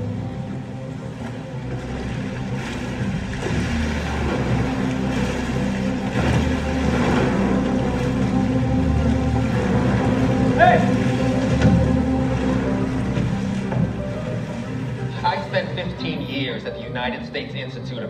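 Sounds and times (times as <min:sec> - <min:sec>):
boat engine running: 0:00.0 - 0:18.0
sea wash: 0:00.0 - 0:18.0.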